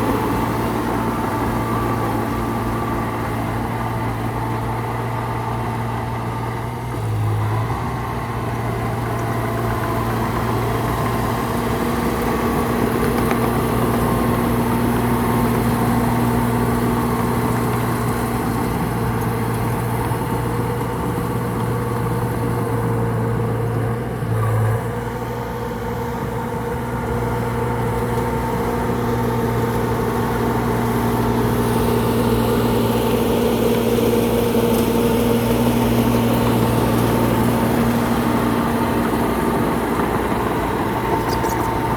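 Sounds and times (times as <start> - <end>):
machine engine humming: 0.0 - 41.9.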